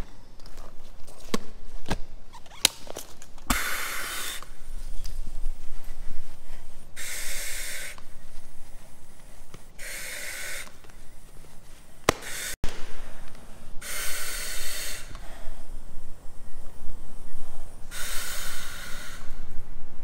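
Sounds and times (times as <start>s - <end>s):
breathing regulator hiss: 3.5s - 19.8s.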